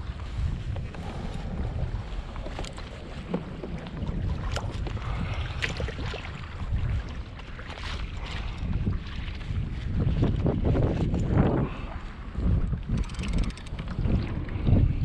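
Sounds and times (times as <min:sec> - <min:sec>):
water lapping at hull: 0:00.0 - 0:15.0
wind buffeting microphone: 0:00.0 - 0:15.0.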